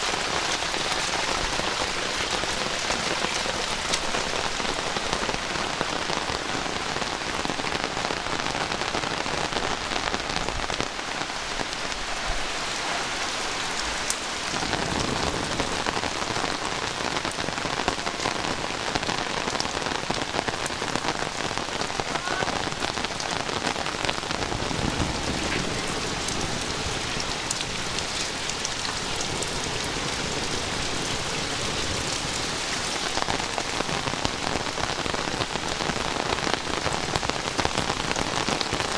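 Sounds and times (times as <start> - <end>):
heavy rain pouring: 0.0 - 38.9
raindrops ticking close by: 0.0 - 38.9.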